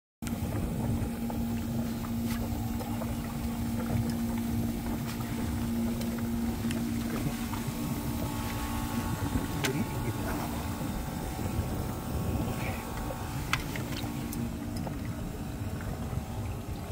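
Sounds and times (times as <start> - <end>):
pump humming: 0.2 - 16.9
water churning and bubbling: 0.2 - 16.9.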